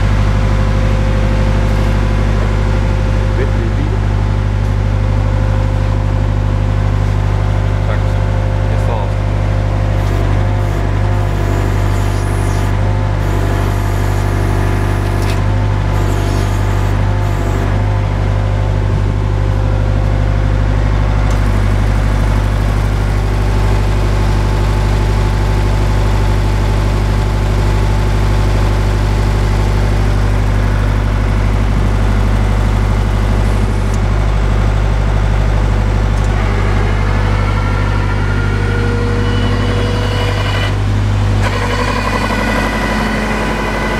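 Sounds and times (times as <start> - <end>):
drill rig engine running: 0.0 - 43.9.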